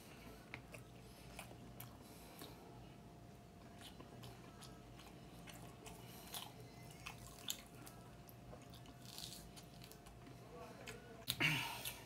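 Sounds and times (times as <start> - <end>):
person chewing wetly: 0.4 - 2.7, 3.6 - 12.0.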